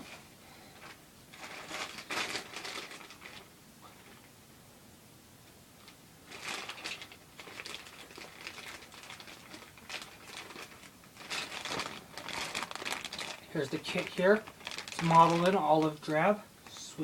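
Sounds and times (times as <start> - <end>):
plastic bags crinkling: 0.0 - 4.3, 5.8 - 17.0.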